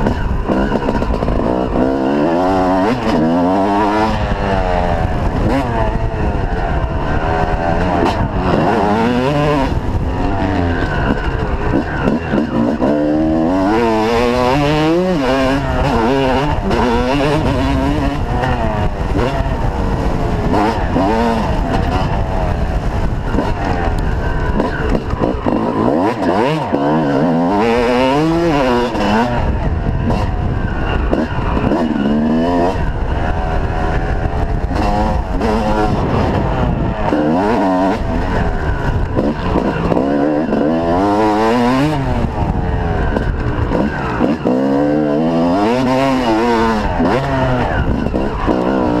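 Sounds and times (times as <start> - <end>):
motocross bike engines revving: 0.0 - 49.0.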